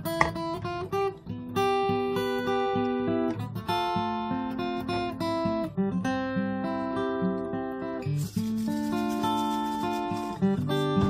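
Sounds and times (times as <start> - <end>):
plucked acoustic guitar melody: 0.0 - 11.0.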